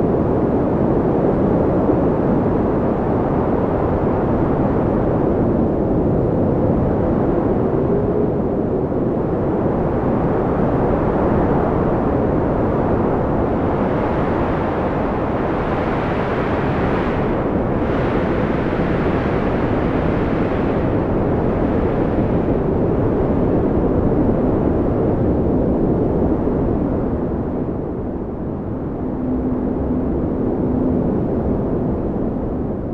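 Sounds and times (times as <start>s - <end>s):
wind rushing and whistling: 0.1s - 32.9s.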